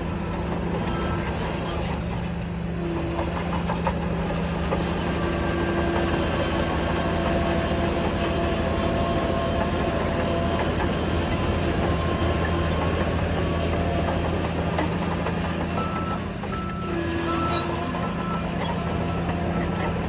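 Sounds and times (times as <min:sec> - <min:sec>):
bulldozer diesel engine droning: 0:00.0 - 0:20.0
steel tracks clattering: 0:00.0 - 0:20.0.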